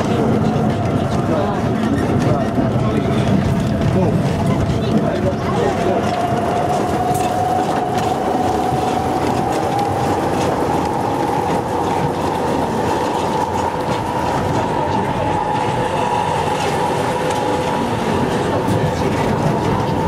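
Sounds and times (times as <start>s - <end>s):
train carriage rumbling and rattling: 0.0s - 20.0s.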